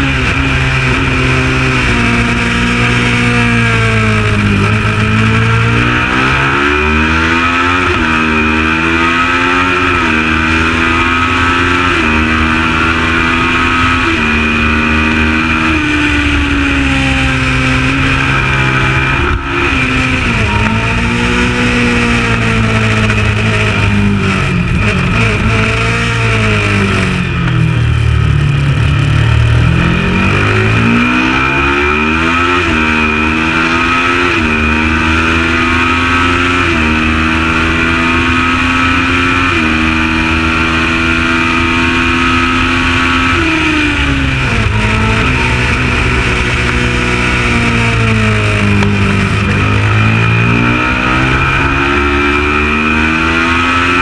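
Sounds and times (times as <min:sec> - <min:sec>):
race bike engine accelerating: 0:00.0 - 0:54.0.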